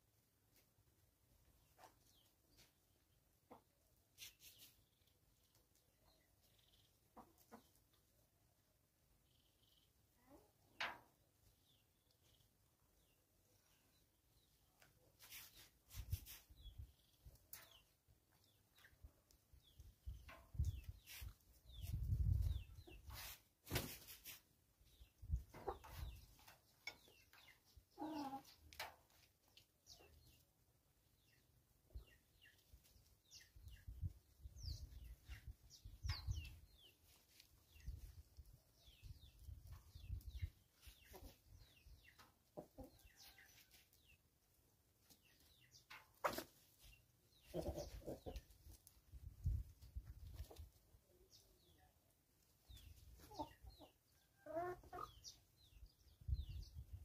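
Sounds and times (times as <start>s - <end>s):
chickens clucking softly: 1.5s - 30.5s, 31.1s - 44.4s, 45.0s - 57.0s.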